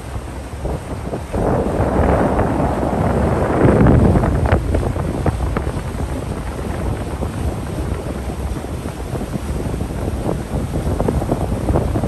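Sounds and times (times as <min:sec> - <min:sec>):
water noise: 0:00.0 - 0:12.0
wind rumbling on microphone: 0:00.0 - 0:12.0.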